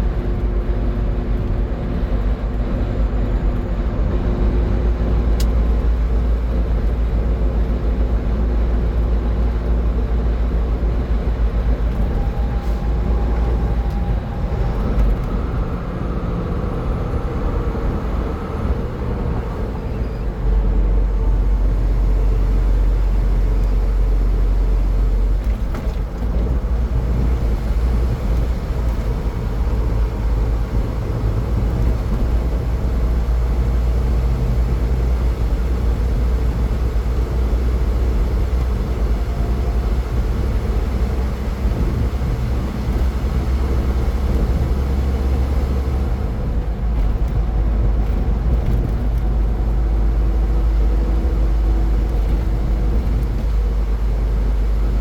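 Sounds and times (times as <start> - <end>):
car road noise rumble: 0.0 - 55.0.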